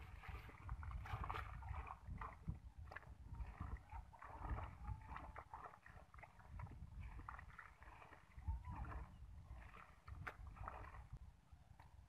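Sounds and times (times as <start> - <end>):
sloshing in muddy water: 0.0 - 11.3.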